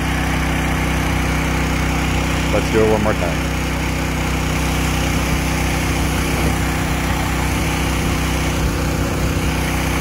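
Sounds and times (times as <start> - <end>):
small gasoline engine running: 0.0 - 10.0.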